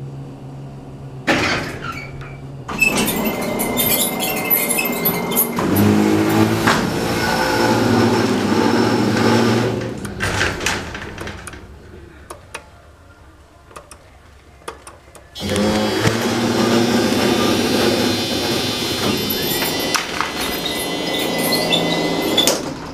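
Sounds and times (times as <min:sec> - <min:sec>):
elevator motor humming: 0:00.0 - 0:22.9.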